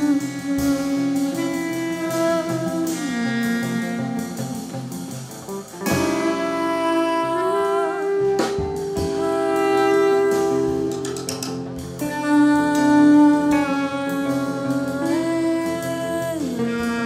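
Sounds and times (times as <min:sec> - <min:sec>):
long held note: 0:00.0 - 0:05.0, 0:05.8 - 0:17.0
jazz band playing: 0:00.0 - 0:17.0.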